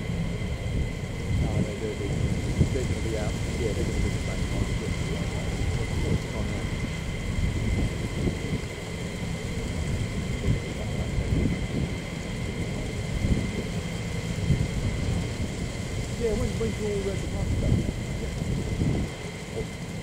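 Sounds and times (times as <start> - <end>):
high turbine whine: 0.0 - 20.0
jet engines idling: 0.0 - 20.0.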